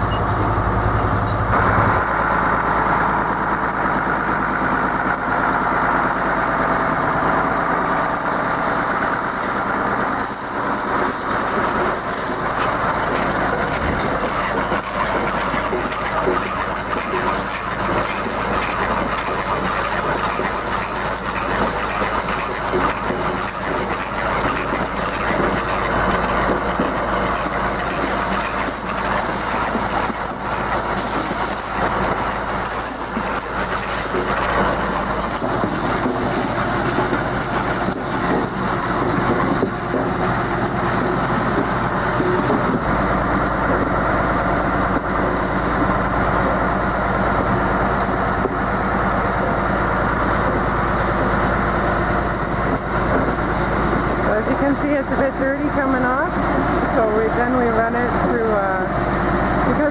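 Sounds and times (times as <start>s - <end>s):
harvester metallic clatter: 0.0s - 59.9s
tractor engine running: 0.0s - 59.9s.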